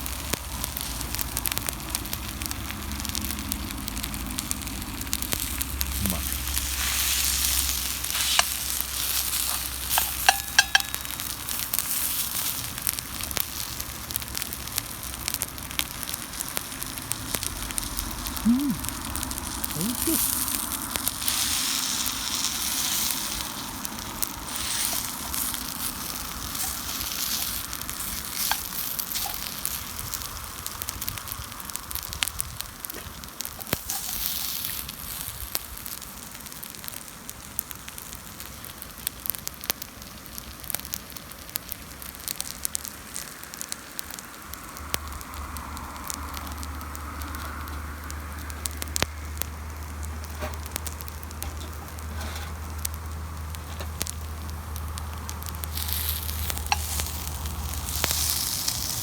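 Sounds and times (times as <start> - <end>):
pellet fire hissing and crackling: 0.0 - 59.0.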